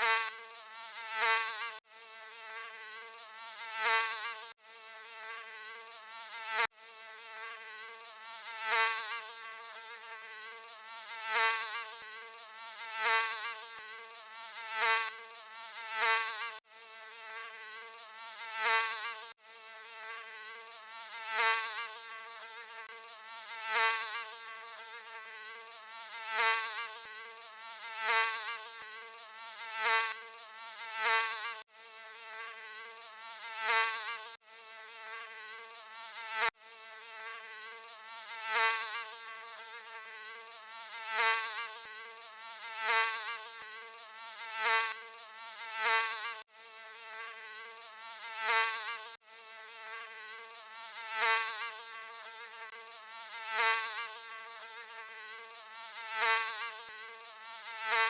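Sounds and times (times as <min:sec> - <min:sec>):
mosquito buzzing: 0:00.0 - 0:58.0.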